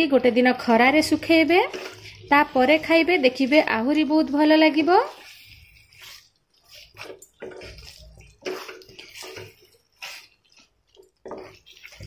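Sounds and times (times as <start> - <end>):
spatula stirring wet masala: 0.0 - 12.0.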